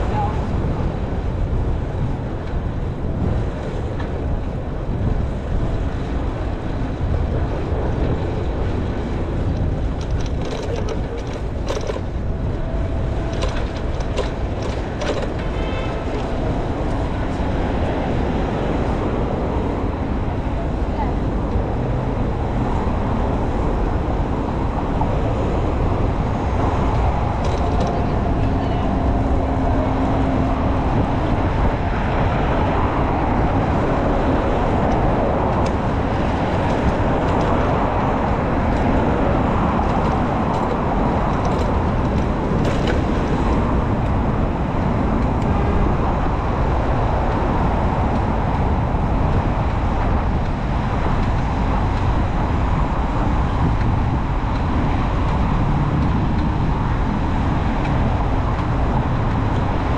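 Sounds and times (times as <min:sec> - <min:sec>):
city road traffic: 0:00.0 - 0:59.9
low wind rumble: 0:00.0 - 0:59.9.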